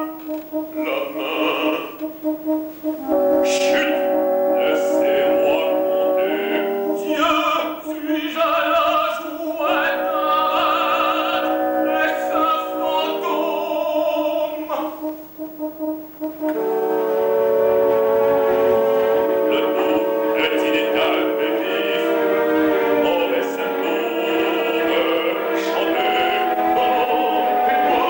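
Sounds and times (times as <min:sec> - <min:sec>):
operatic singing: 0:00.0 - 0:28.0
orchestra sustained chords: 0:00.0 - 0:28.0.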